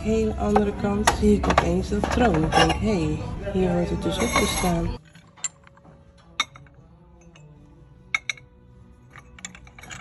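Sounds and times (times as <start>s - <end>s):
ceramic dishes clinking: 0.4s - 3.1s, 4.0s - 10.0s.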